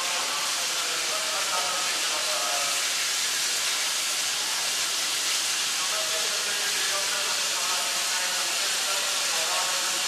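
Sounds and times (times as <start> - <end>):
steam venting hiss: 0.0 - 10.0.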